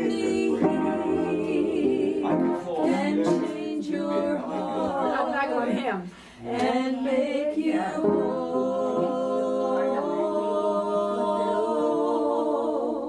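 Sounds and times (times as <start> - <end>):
group singing gospel a cappella: 0.0 - 13.0.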